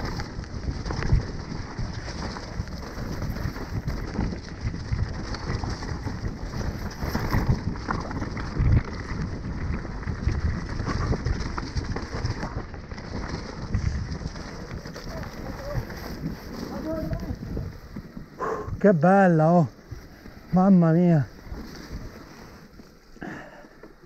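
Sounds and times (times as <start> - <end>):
wind rushing on microphone: 0.0 - 22.3
bike thudding over bumps: 0.0 - 24.0
bike tyres over dirt and leaves: 0.0 - 24.0.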